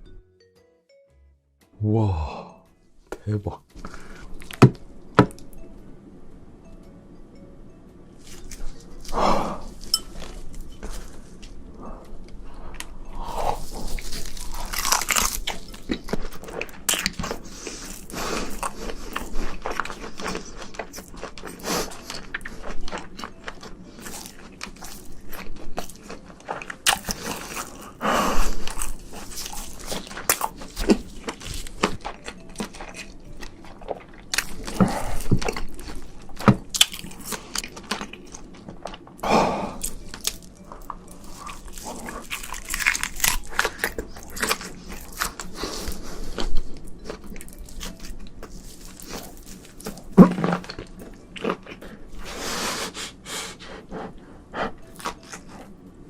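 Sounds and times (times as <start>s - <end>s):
person chewing prawn: 8.3s - 55.8s.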